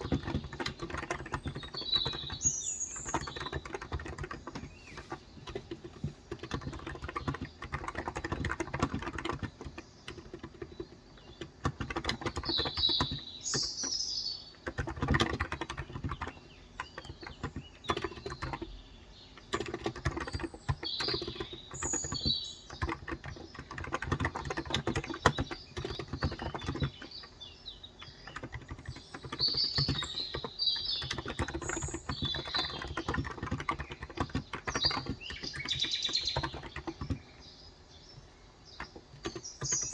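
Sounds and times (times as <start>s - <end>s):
fast keyboard typing: 0.0s - 37.6s, 38.2s - 39.9s
birds chirping: 0.0s - 39.9s.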